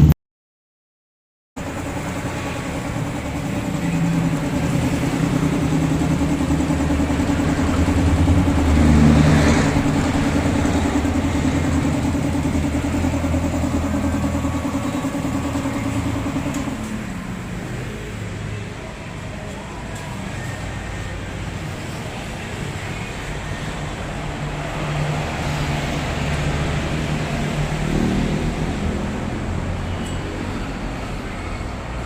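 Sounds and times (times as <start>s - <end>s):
motorcycle engine running: 1.6s - 30.0s.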